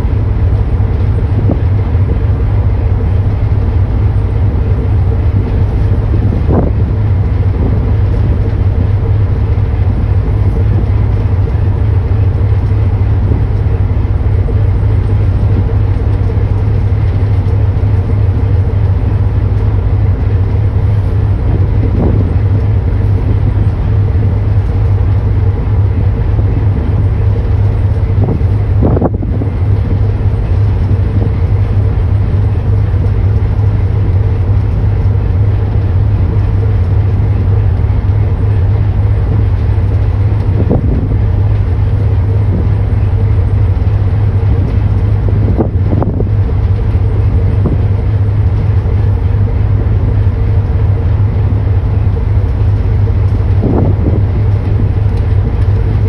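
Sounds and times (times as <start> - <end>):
rush of wind and water: 0.0 - 56.0
ship engine drone: 0.0 - 56.0.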